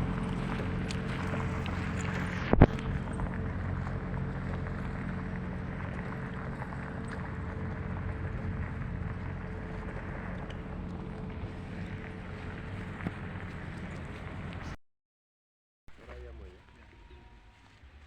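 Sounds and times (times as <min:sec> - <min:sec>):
vehicle engine humming: 0:00.0 - 0:14.8.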